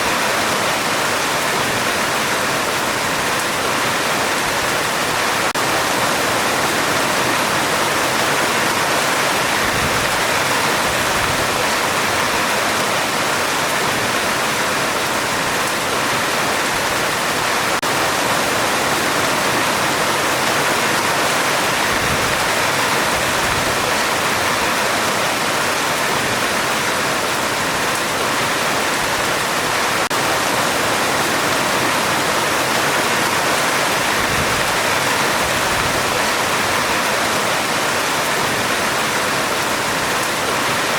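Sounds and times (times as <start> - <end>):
heavy rain on a metal roof: 0.0 - 40.9.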